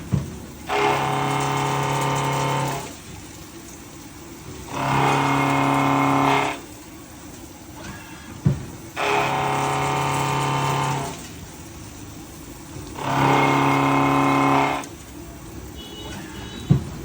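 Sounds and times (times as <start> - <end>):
milling machine whining: 0.0 - 16.8.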